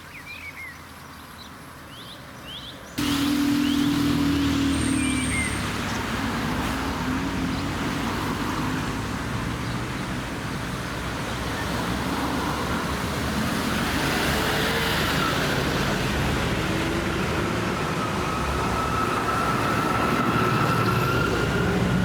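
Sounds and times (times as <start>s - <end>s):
cars passing: 3.0s - 22.0s.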